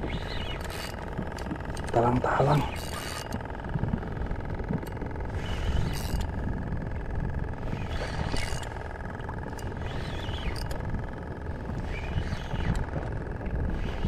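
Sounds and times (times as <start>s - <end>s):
outboard motor idling: 0.0s - 14.0s
sea wash: 0.0s - 14.0s.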